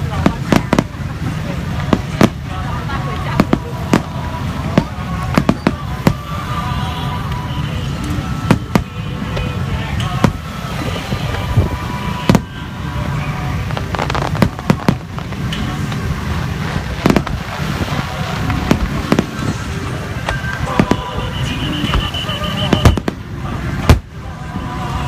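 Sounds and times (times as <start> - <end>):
continuous low rumble: 0.0 - 25.0.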